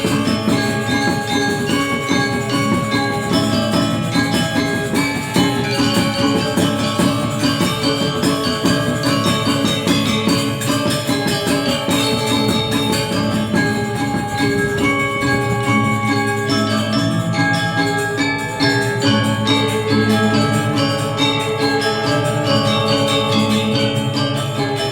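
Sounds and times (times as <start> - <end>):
gamelan ensemble playing: 0.0 - 24.9.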